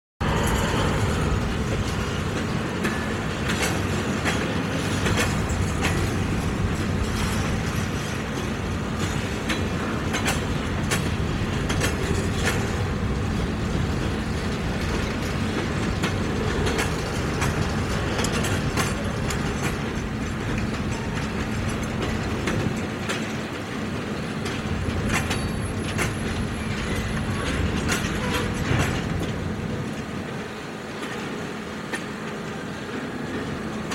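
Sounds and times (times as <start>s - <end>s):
steel wheels rumbling on rail: 0.2s - 33.9s
wheels clacking over track: 0.2s - 33.9s.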